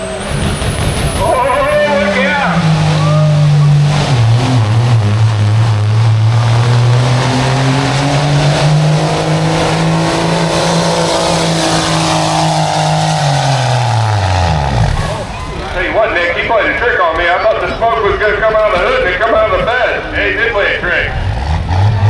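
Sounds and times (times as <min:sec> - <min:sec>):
truck engine at full throttle: 0:00.0 - 0:22.0.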